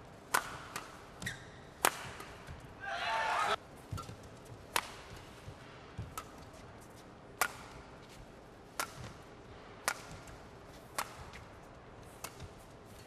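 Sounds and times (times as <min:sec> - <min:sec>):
arena background noise: 0:00.0 - 0:13.0
rackets hitting shuttlecock: 0:00.2 - 0:13.0.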